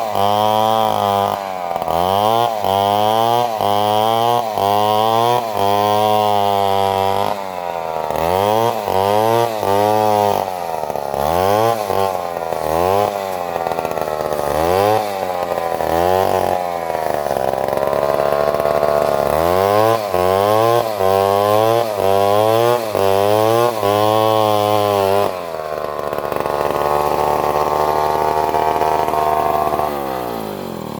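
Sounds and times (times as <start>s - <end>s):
chainsaw revving while cutting: 0.0s - 30.9s.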